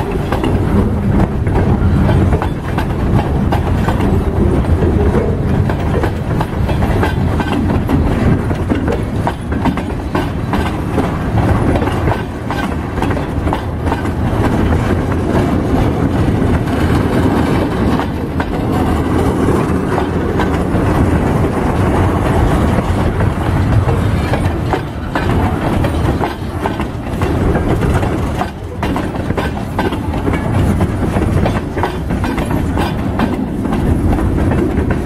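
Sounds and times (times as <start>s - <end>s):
train rumble: 0.0s - 35.0s
train wheels clacking on rails: 0.0s - 35.0s.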